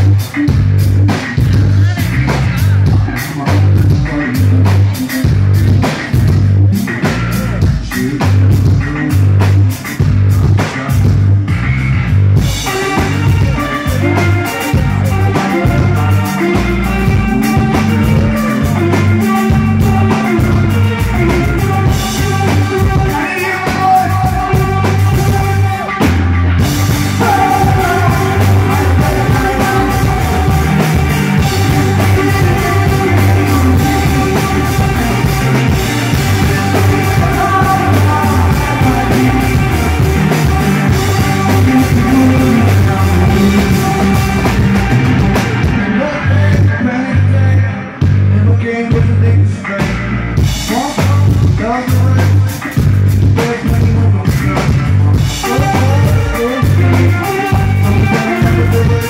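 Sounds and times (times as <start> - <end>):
electric guitars: 0.0 - 59.0
live rock band playing: 0.0 - 59.0.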